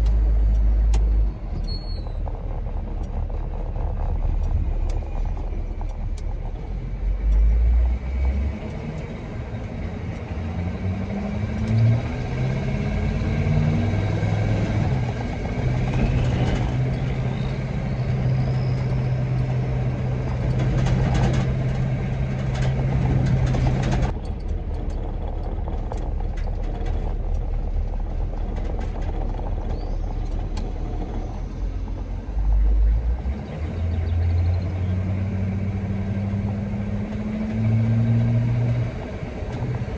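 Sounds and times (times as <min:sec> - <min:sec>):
truck engine: 0:00.0 - 0:39.9.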